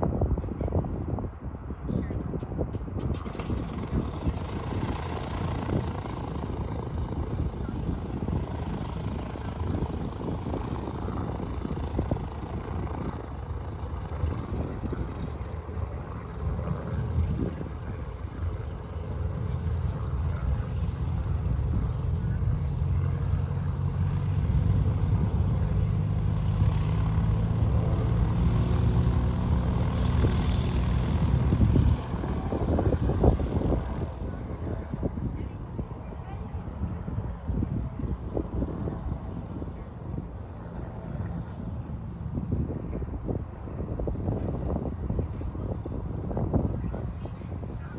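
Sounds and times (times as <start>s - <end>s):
plane engine and propeller: 0.0s - 47.9s.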